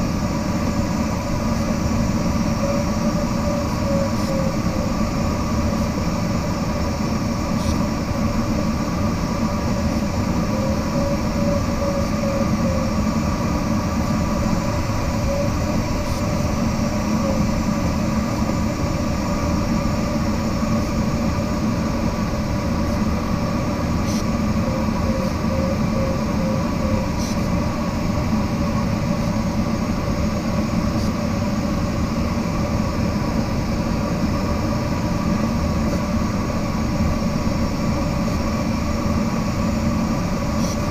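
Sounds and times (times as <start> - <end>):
faint even hum: 0.0 - 32.8.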